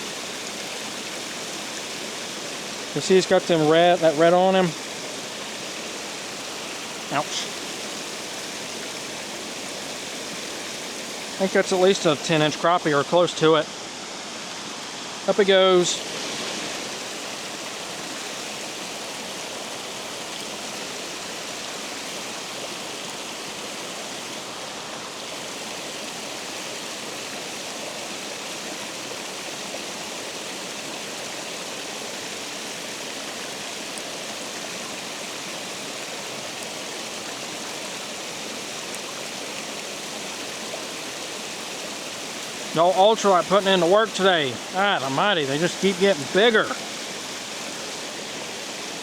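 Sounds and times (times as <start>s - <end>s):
water rushing over spillway: 0.0s - 49.0s.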